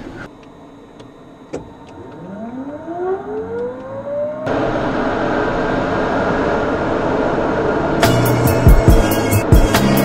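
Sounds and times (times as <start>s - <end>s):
engine steady rushing: 0.0s - 10.0s
turboprop engine whine rising: 0.0s - 10.0s.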